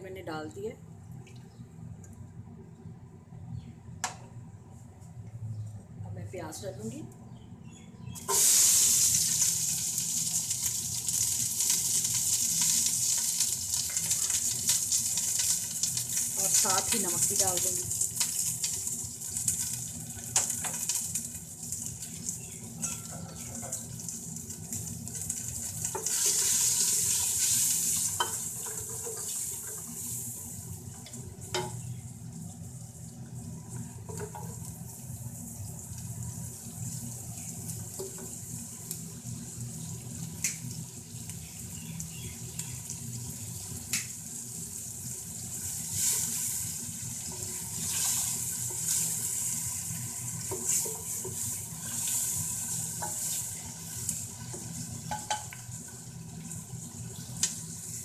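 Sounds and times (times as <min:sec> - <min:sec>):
onions sizzling in oil: 0:08.1 - 0:58.0.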